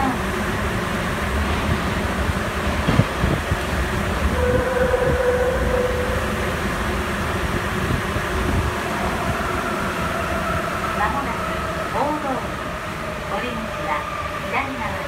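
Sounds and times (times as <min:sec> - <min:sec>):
subway train rumble: 0:00.0 - 0:15.0
faint whine: 0:01.2 - 0:13.7.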